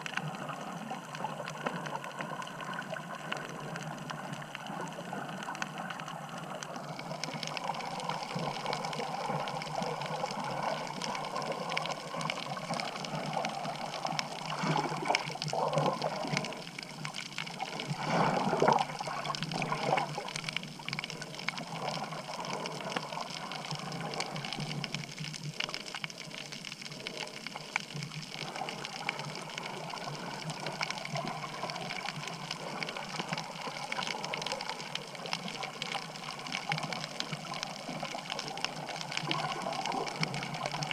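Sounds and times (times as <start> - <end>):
muffled water rushing underwater: 0.0 - 40.9.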